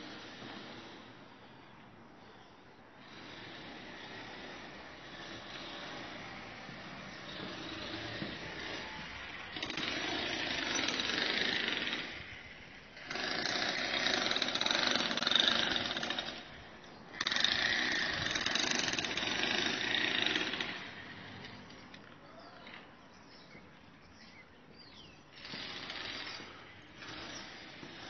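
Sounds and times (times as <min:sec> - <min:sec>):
jackhammer running: 0:00.0 - 0:01.4, 0:03.0 - 0:22.0, 0:25.3 - 0:28.0.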